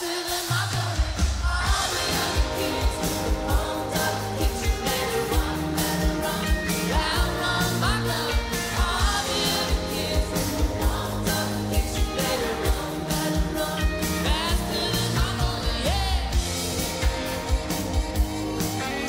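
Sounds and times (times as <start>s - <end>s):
person singing: 0.0s - 17.8s
keyboards: 0.0s - 19.0s
drumbeat: 0.4s - 19.0s
bass: 1.0s - 19.0s.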